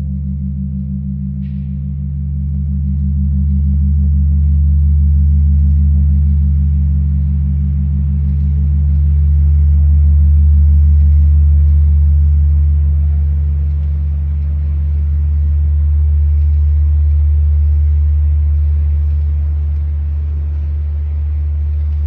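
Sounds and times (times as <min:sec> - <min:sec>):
deep bell hum: 0:00.0 - 0:22.0.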